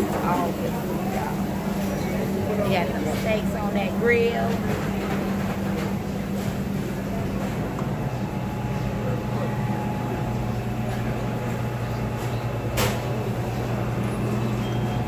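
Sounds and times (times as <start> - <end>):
background chatter: 0.0 - 15.0
low machine hum: 0.0 - 15.0.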